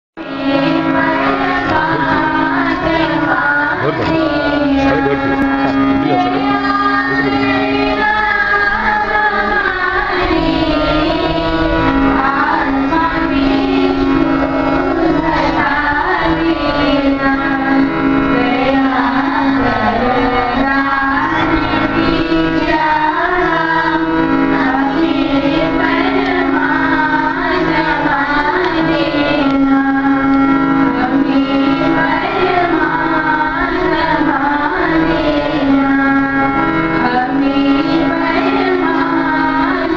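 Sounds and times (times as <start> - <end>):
children singing: 0.2 - 39.9
held drone note: 0.2 - 39.9.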